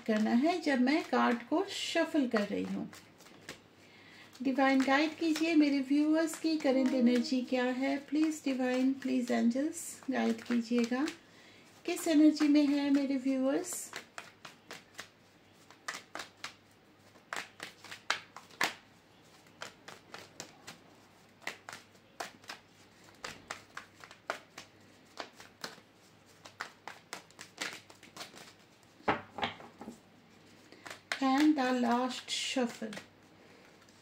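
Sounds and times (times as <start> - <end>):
cards being shuffled: 0.0 - 34.0.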